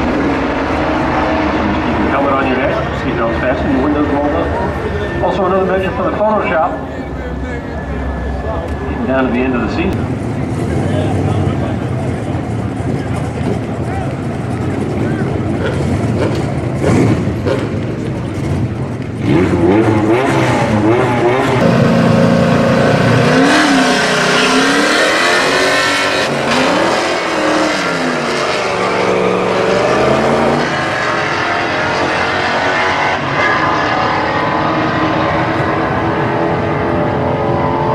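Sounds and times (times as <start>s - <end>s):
car engines revving: 0.0s - 37.9s
cars accelerating at full throttle: 0.0s - 37.9s.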